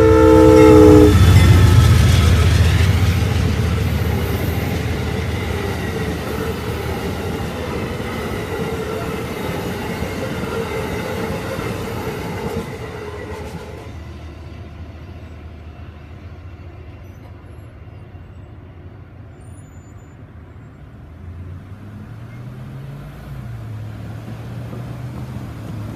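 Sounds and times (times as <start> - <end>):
train wheels on rails: 0.0 - 25.9.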